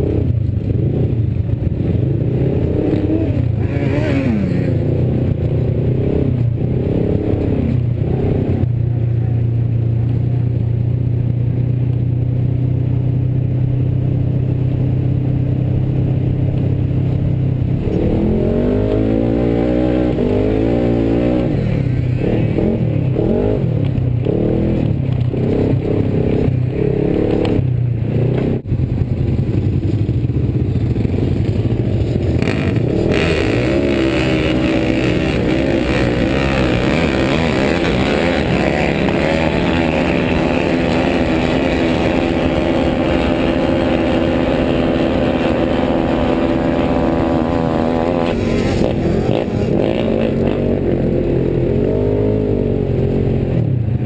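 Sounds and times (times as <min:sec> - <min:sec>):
off-road vehicle engine revving: 0:00.0 - 0:08.8, 0:15.9 - 0:28.7, 0:32.0 - 0:54.0.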